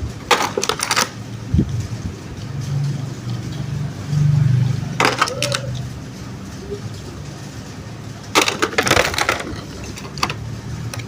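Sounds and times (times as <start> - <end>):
sharp clicks and rattles: 0.0 - 11.0.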